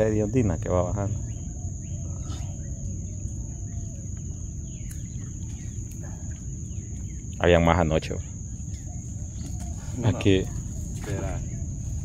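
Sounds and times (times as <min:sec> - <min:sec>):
faint bird calls: 0:00.0 - 0:12.0
insects buzzing: 0:00.0 - 0:12.0
low continuous rumble: 0:00.0 - 0:12.0.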